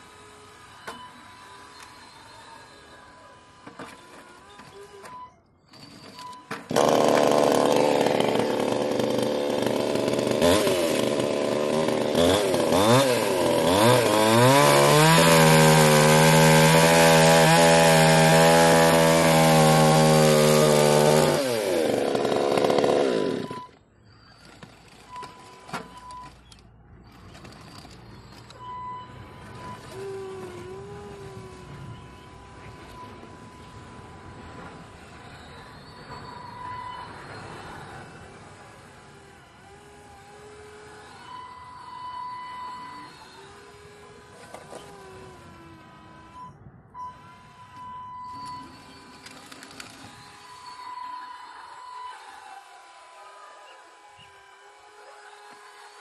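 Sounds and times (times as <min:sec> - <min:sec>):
hydraulic pump whining: 0:00.0 - 0:56.0.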